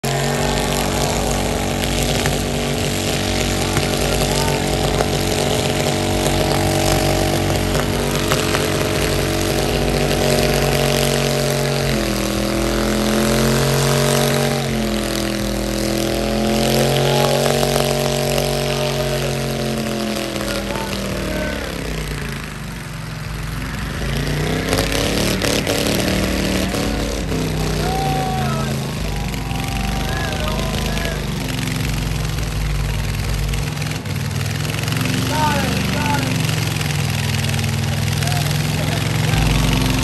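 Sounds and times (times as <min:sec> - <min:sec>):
car engine at high revs: 0:00.0 - 0:40.0
spinning tyres hissing: 0:00.0 - 0:40.0.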